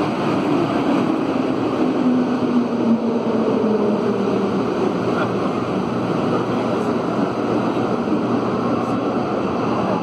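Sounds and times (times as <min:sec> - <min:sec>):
metro train rolling: 0:00.0 - 0:10.0.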